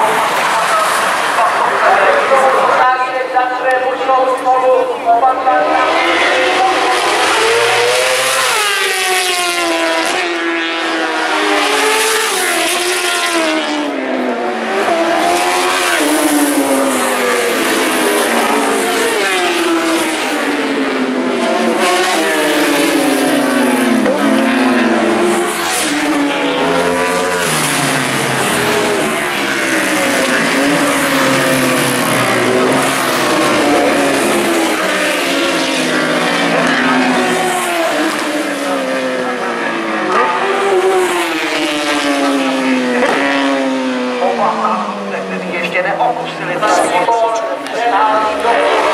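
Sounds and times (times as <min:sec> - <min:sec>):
motorcycles racing past: 0:05.5 - 0:48.9.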